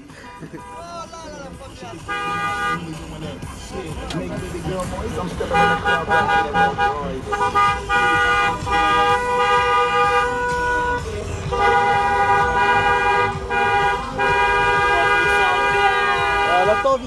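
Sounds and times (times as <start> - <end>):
car horns honking: 0.0 - 17.0.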